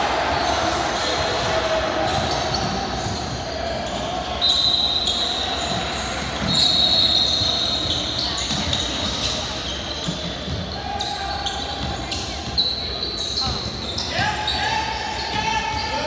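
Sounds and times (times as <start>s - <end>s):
echoing crowd voices: 0.0s - 16.0s
sneakers squeaking on court: 0.2s - 16.0s.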